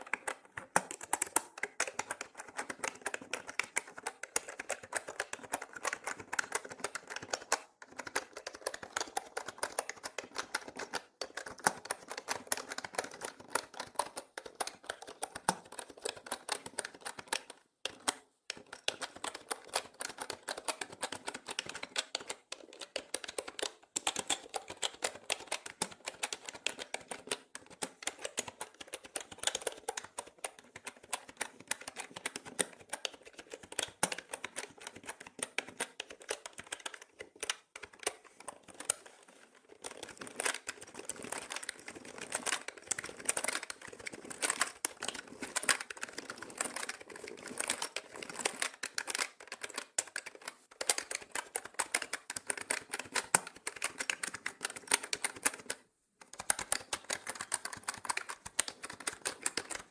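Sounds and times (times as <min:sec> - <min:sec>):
typing on mechanical keyboard: 0:00.0 - 0:59.9.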